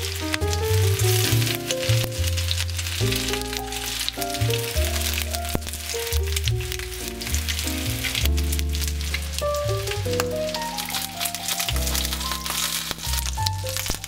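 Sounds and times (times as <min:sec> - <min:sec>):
background music with bass: 0:00.0 - 0:14.0
chicken sizzling in hot oil: 0:00.0 - 0:14.0.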